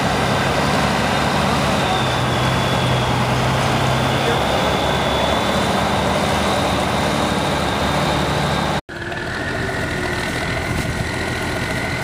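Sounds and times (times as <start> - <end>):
diesel truck engine driving: 0.0 - 12.0
truck engine with high whine: 0.0 - 12.0.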